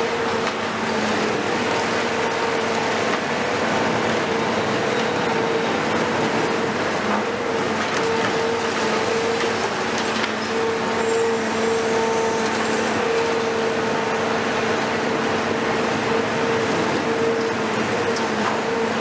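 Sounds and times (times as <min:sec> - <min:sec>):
excavator diesel engine running: 0:00.0 - 0:19.0
steady mechanical whine: 0:00.0 - 0:19.0.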